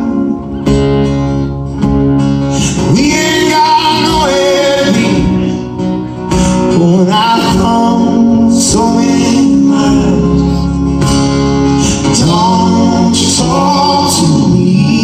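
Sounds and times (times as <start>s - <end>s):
acoustic band playing: 0.0s - 15.0s
strummed acoustic guitar: 0.0s - 15.0s.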